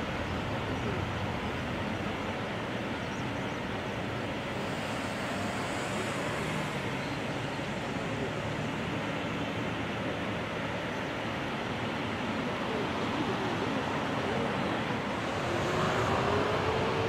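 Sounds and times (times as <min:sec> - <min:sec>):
jet engines rumble and hiss: 0:00.0 - 0:17.0.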